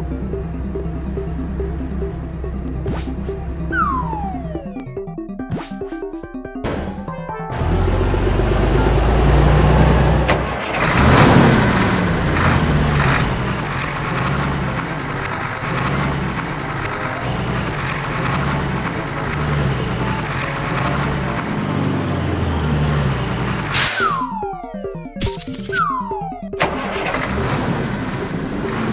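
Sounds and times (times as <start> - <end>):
vehicle engine running: 0.0 - 4.9, 6.6 - 24.4, 26.6 - 28.9.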